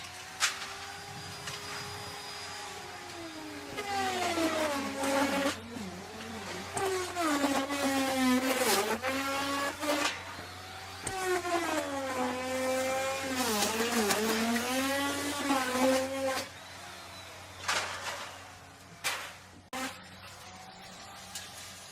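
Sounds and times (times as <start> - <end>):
electric router cutting wood: 0.0 - 21.9.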